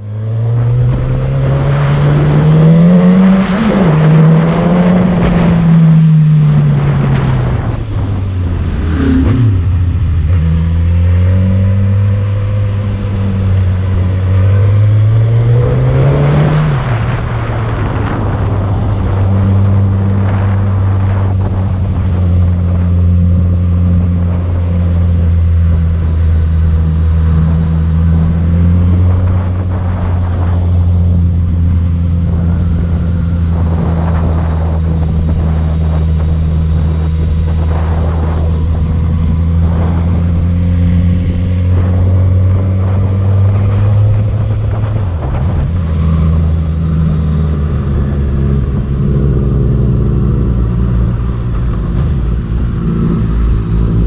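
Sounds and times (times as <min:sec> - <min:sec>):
motorcycle engine revving: 0:00.0 - 0:54.0
road noise: 0:00.0 - 0:54.0
rushing wind: 0:00.0 - 0:54.0.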